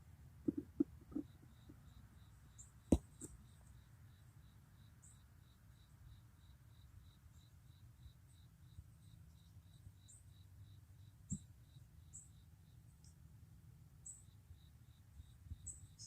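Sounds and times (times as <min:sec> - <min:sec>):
insect chirping: 0:00.4 - 0:16.0.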